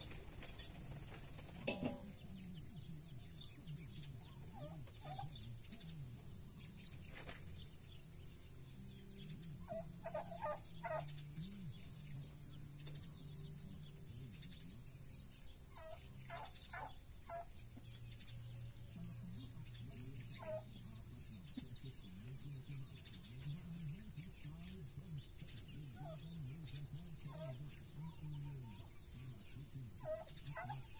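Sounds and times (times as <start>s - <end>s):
faint poultry calls: 0.0s - 7.4s, 8.3s - 18.0s, 18.9s - 30.9s.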